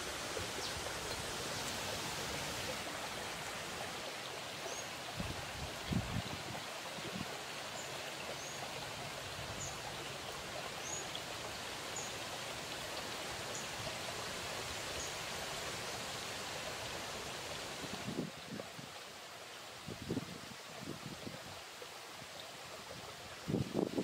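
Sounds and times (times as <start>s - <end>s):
stream rushing: 0.0s - 24.0s.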